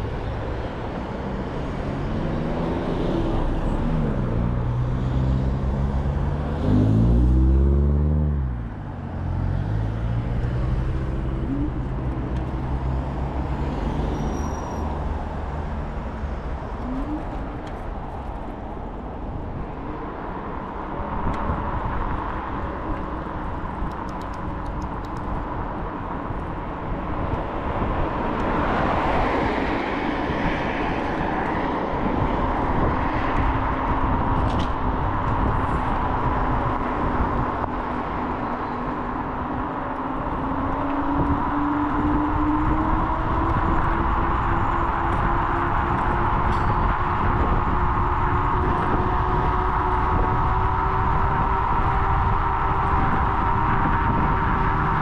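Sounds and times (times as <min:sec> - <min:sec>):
passing motor vehicle: 0:00.0 - 0:55.0
wind and road noise: 0:00.0 - 0:55.0.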